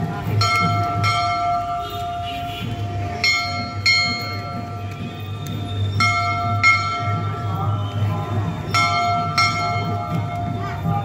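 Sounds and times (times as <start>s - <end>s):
temple bells ringing: 0.0s - 2.5s, 3.1s - 11.0s.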